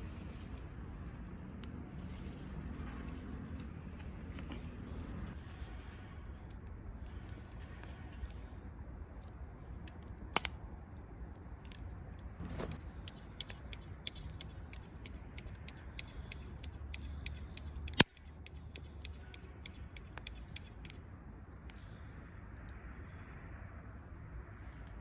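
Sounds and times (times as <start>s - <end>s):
campfire crackling: 0.0s - 25.0s
loud snaps of fire: 0.0s - 25.0s
low fire rumble: 0.0s - 25.0s.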